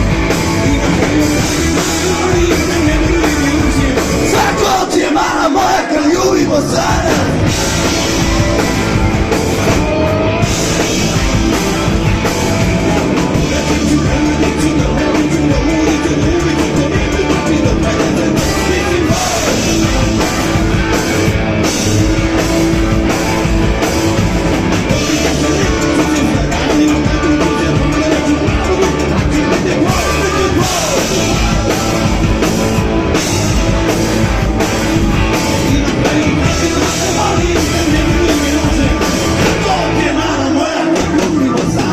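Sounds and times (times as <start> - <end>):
person singing: 0.0 - 8.7, 9.7 - 20.8, 24.9 - 33.7, 34.9 - 41.9
live rock band playing: 0.0 - 41.9.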